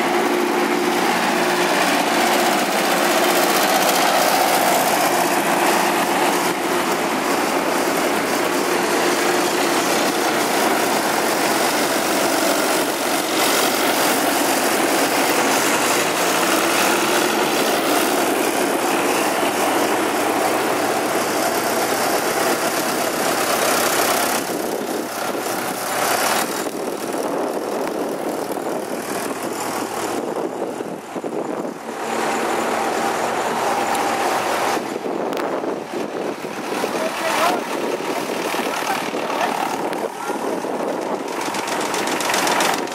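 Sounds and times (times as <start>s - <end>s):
tractor engines driving past: 0.0s - 42.9s.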